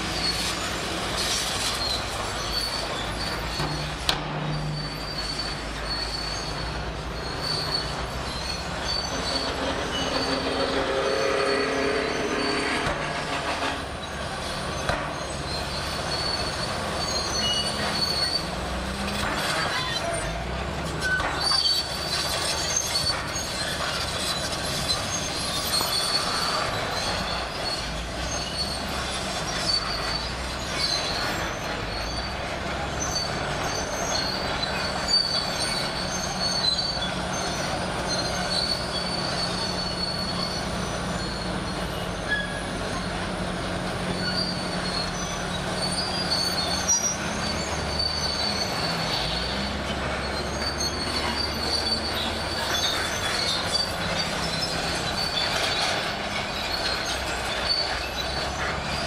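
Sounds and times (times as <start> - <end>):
bulldozer diesel engine under load: 0.0 - 59.0
steel tracks squealing and clanking: 0.0 - 59.0.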